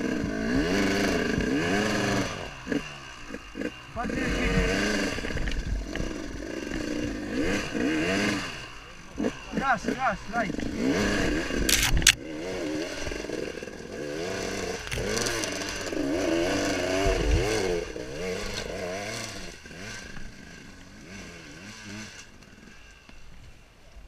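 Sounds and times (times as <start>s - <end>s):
motorcycle engine revving: 0.0s - 23.7s.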